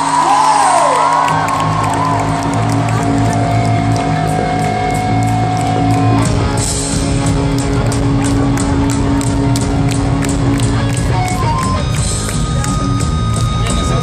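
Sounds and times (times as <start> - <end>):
drums: 0.0 - 14.0
electric guitars: 0.0 - 14.0
live rock band: 0.0 - 14.0.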